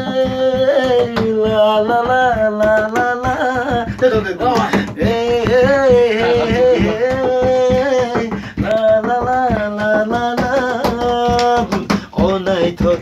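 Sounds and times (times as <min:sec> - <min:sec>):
man singing long notes: 0:00.0 - 0:13.0
hand taps on wooden plank: 0:00.3 - 0:13.0.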